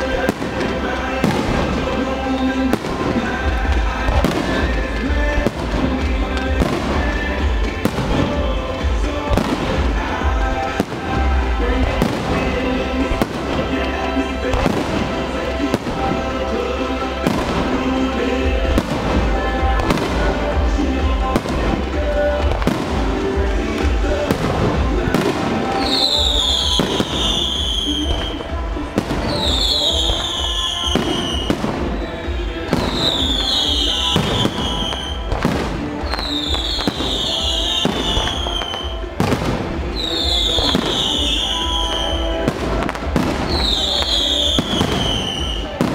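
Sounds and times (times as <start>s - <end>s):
fireworks bangs and crackles: 0.0s - 45.9s
loud music: 0.0s - 45.9s
low fireworks rumble: 0.0s - 45.9s.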